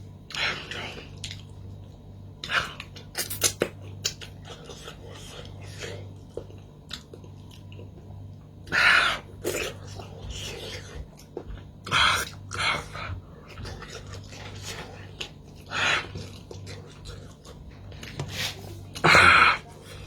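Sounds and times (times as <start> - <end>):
steady low hum: 0.0 - 20.0
chewing crunches and smacks: 0.1 - 20.0.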